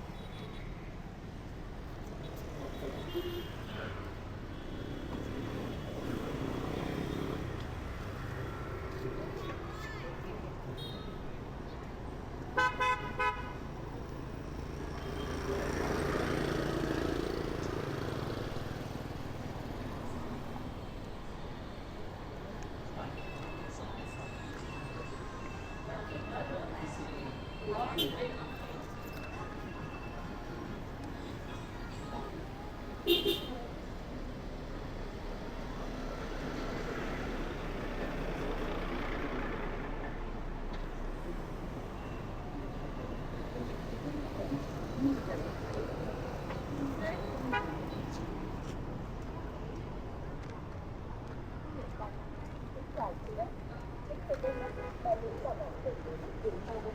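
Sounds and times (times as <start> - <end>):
street traffic: 0.0 - 56.9.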